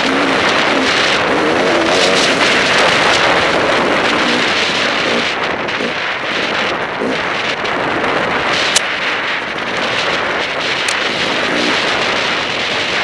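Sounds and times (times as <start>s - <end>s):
motorcycle engine revving: 0.0s - 13.0s
wind buffeting microphone: 0.0s - 13.0s.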